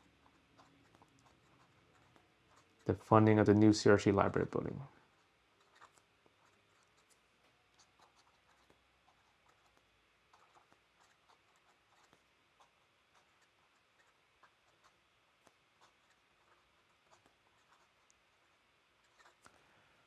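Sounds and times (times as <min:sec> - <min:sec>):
pen nib scratching on paper: 0:00.0 - 0:04.4, 0:05.1 - 0:19.6.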